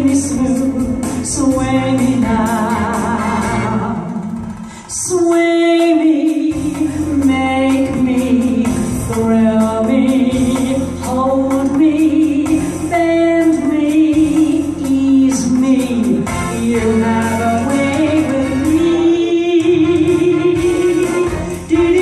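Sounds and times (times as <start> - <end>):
backing track music: 0.0 - 22.0
woman singing into microphone: 0.0 - 22.0.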